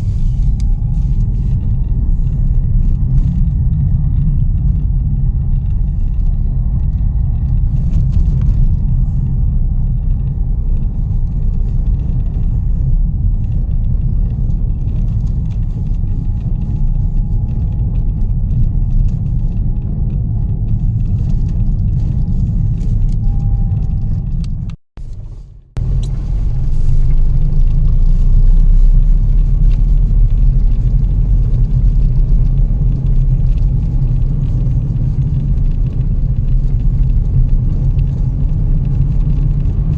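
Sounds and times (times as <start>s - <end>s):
blizzard wind buffeting microphone: 0.0s - 24.8s, 25.7s - 39.9s.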